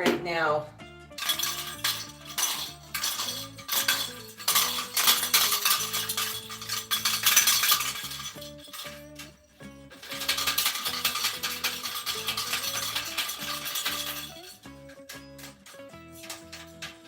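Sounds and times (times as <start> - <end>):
background music with bass: 0.0 - 17.0
jingle bells rattling: 1.1 - 17.0.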